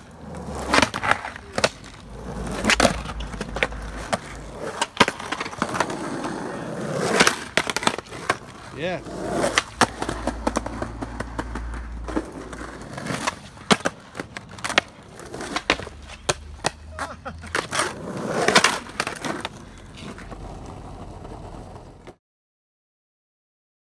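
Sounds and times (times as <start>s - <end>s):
skateboard clacking on curb: 0.0s - 22.2s
skateboard scraping along curb: 0.0s - 22.2s
skateboards rolling on asphalt: 0.0s - 22.2s.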